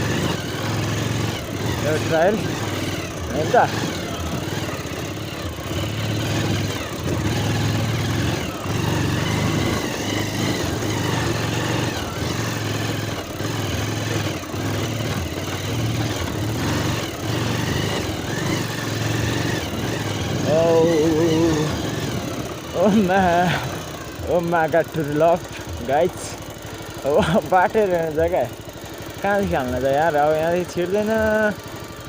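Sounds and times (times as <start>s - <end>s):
motorcycle engine at low revs: 0.0s - 32.0s.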